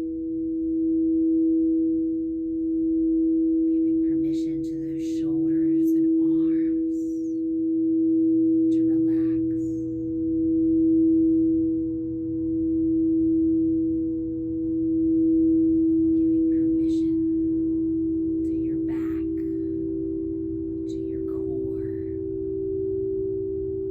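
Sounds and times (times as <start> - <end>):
singing bowl tone: 0.0 - 23.9.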